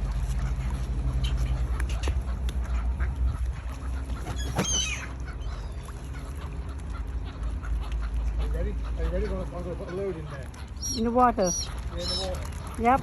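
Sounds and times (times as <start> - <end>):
ducks quacking: 0.0 - 13.0
water-bird calls: 0.0 - 13.0.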